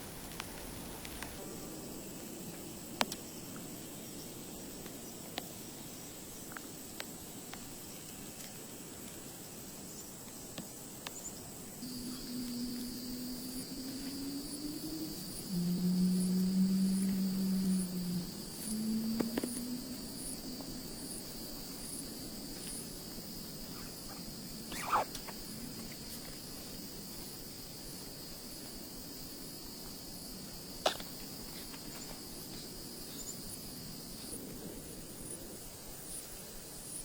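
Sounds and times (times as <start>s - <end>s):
insects chirping in a high trill: 0.0s - 37.0s.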